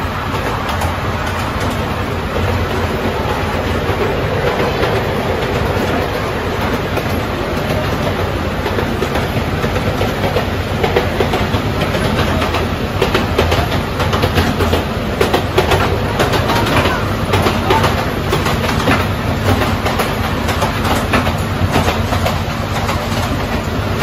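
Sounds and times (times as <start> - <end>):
miniature train rumbling: 0.0 - 24.0
wheels clacking over rail joints: 0.0 - 24.0.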